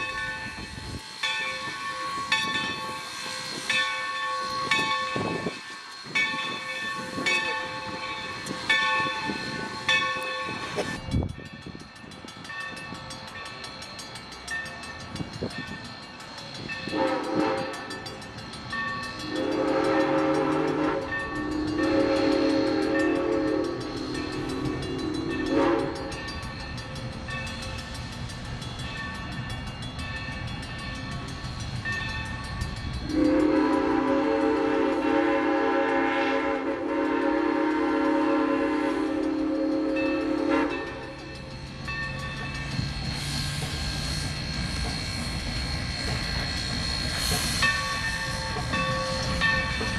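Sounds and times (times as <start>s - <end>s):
running train: 0.0s - 49.9s
steam train chime whistle: 0.0s - 49.9s.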